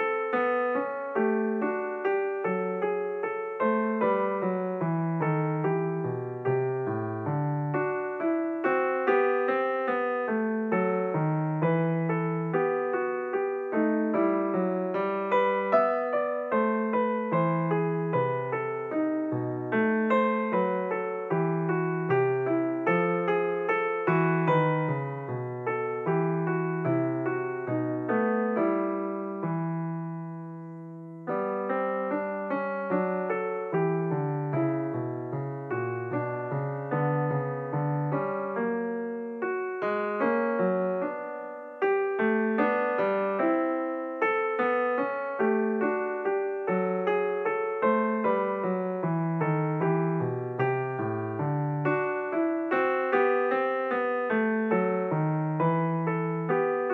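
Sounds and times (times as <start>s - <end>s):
solo piano broken chords: 0.0s - 56.9s.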